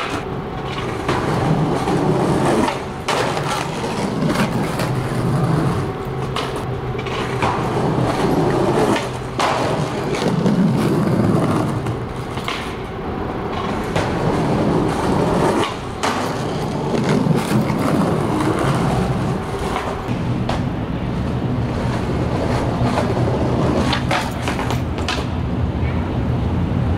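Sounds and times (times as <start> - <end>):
skateboard clacks: 0.0 - 25.4
skateboard wheels rolling on stone: 0.0 - 25.5.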